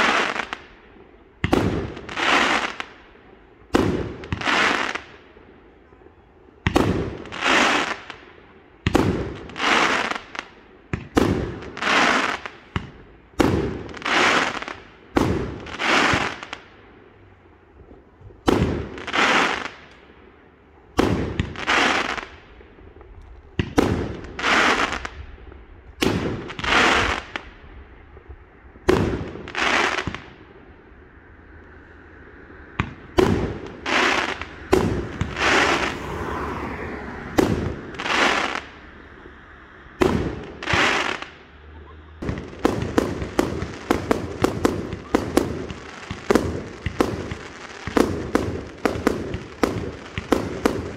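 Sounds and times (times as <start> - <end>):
fireworks bursting with bangs: 0.0 - 30.9, 32.7 - 39.4, 40.0 - 50.9.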